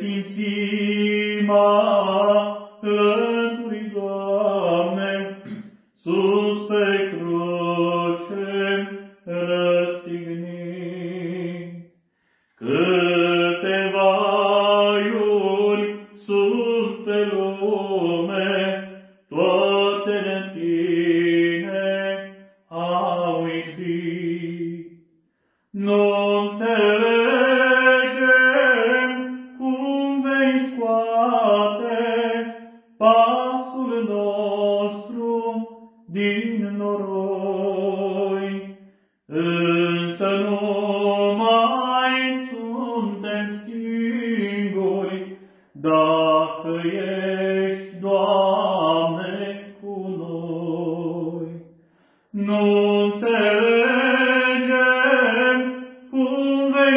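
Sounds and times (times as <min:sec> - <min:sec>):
man singing unaccompanied: 0:00.0 - 0:12.0, 0:12.6 - 0:25.0, 0:25.7 - 0:56.9.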